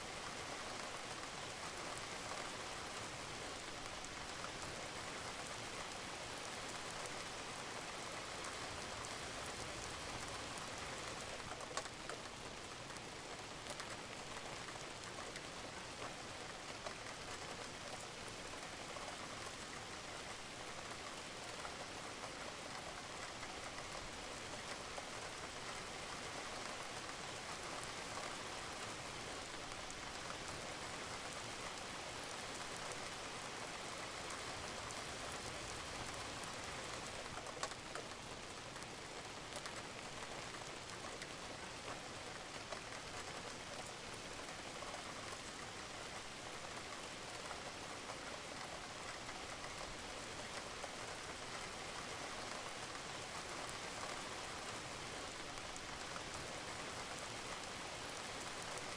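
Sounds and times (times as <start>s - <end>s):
rain falling on a roof: 0.0s - 58.9s.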